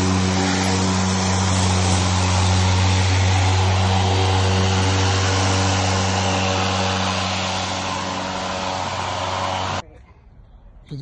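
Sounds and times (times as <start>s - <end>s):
electric mower cutting grass: 0.0s - 9.8s.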